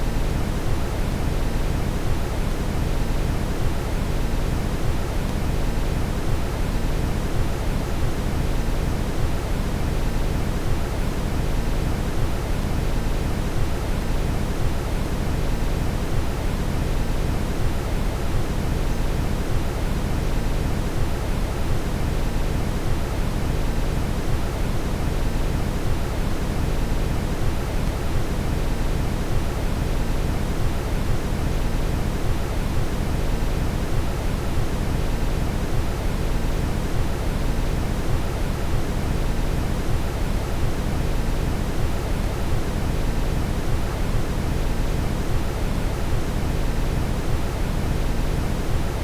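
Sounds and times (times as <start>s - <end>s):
brown noise hiss: 0.0s - 49.0s.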